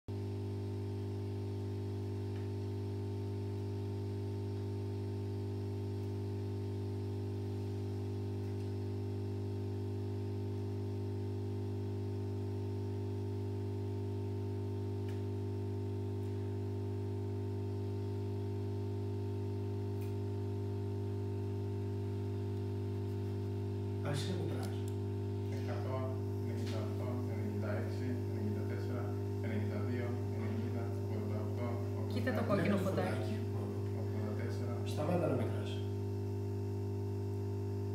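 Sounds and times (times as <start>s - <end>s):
steady electrical hum: 0.1s - 37.9s.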